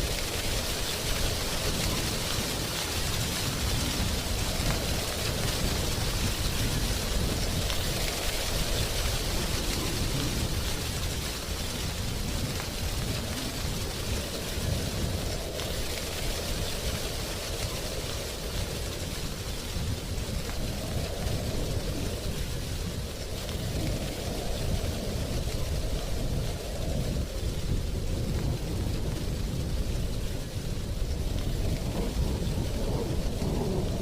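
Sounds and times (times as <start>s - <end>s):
low wind rumble: 0.0s - 34.0s
wind rustling dry leaves: 0.0s - 34.0s.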